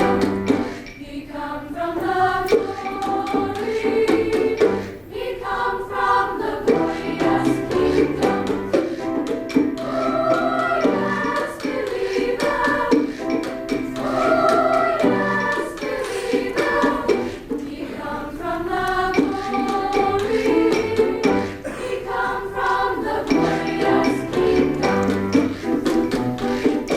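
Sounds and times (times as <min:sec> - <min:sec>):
women's choir singing in harmony: 0:00.0 - 0:26.9.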